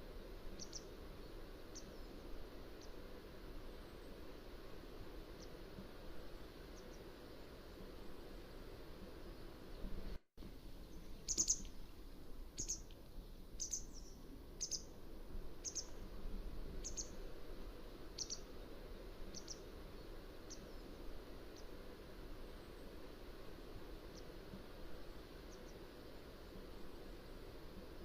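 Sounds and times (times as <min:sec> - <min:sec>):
low background hiss: 0:00.0 - 0:28.0.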